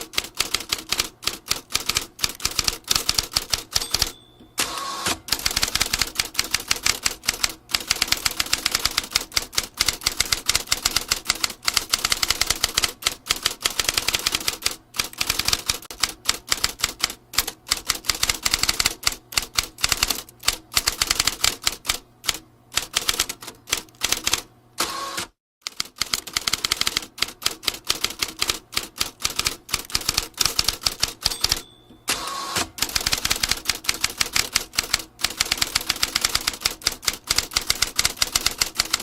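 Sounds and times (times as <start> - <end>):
typewriter typing fast: 0.0 - 4.2, 5.3 - 24.5, 25.6 - 31.8, 32.6 - 39.0.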